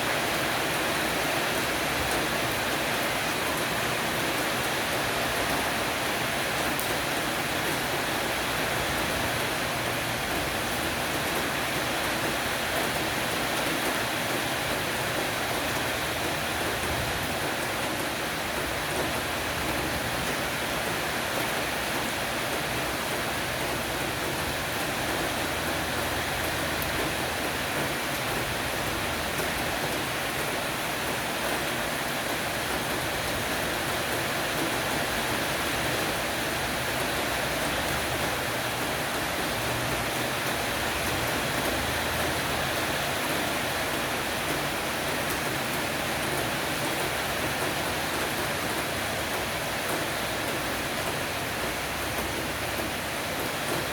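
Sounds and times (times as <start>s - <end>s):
heavy rain on a roof: 0.0s - 53.9s.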